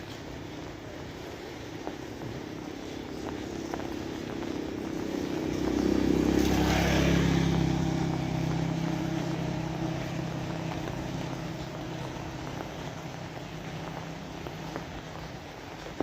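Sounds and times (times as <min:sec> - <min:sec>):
rain falling: 0:00.0 - 0:16.0
vehicle engine passing: 0:00.5 - 0:16.0.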